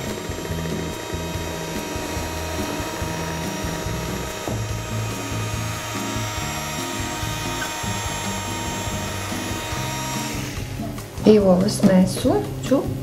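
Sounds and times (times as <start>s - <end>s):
electric hand mixer whining: 0.0s - 11.4s
beaters whisking batter: 0.0s - 11.9s.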